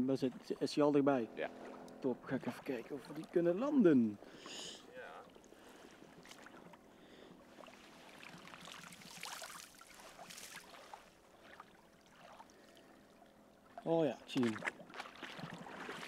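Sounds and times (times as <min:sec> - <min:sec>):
small waves lapping: 0:00.0 - 0:16.0.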